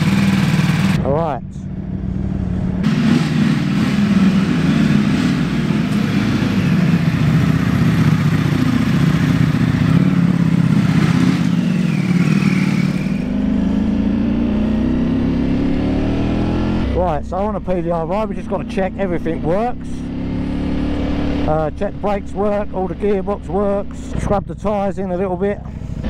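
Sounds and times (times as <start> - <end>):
motorcycle engines running: 0.0 - 26.0.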